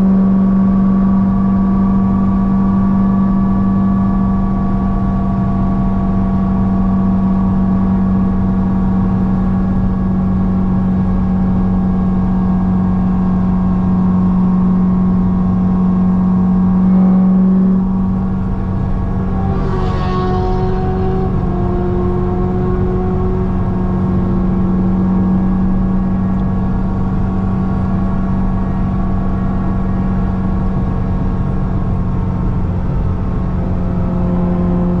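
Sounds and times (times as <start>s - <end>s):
car engine drone: 0.0s - 35.0s
supercharger whine: 0.0s - 35.0s.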